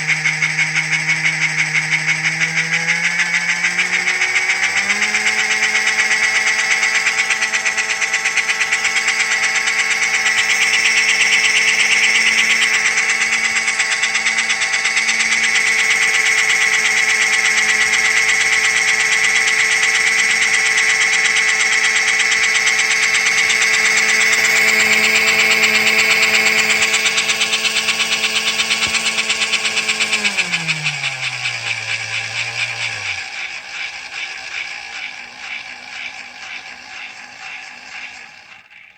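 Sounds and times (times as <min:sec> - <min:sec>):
small electric motor humming: 0:00.0 - 0:38.9.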